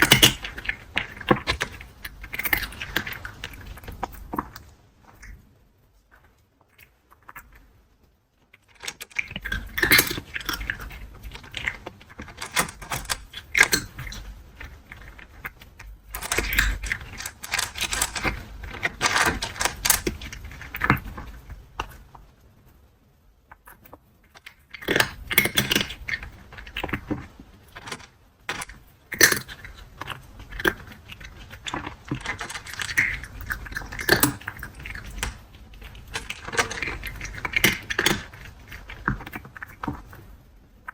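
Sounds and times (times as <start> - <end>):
cat crunching dry kibble: 0.0 - 5.4, 8.5 - 22.3, 23.6 - 40.9.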